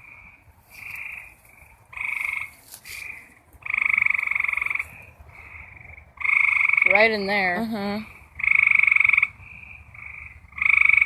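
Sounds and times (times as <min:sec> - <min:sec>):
frogs calling in pulsed trills: 0:00.0 - 0:11.0.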